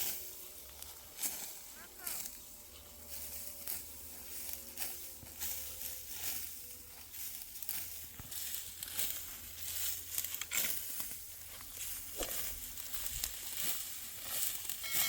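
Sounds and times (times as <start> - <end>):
dry rustling and crackling: 0.0 - 15.0.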